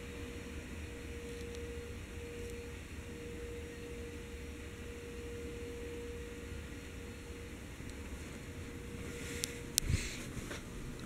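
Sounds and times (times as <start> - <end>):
ceiling fan motor hum: 0.0 - 11.0.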